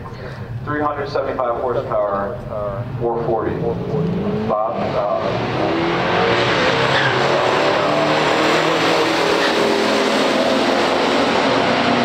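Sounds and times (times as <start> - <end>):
car engines at full throttle: 0.0 - 12.0.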